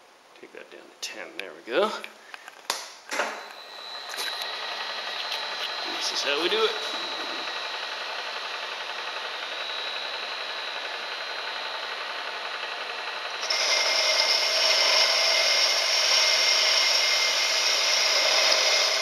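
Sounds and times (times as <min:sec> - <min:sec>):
milling machine spindle running: 0:03.5 - 0:19.0.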